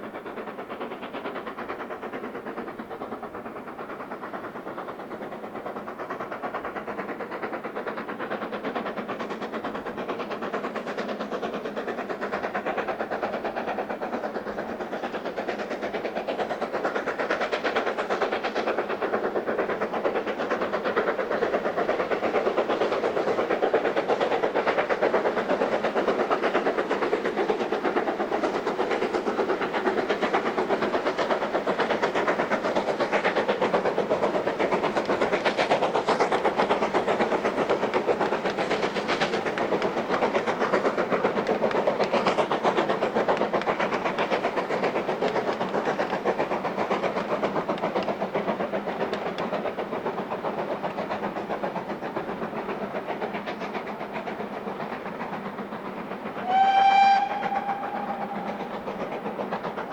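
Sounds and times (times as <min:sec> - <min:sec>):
steam locomotive pulsing rumble: 0:00.0 - 0:59.9.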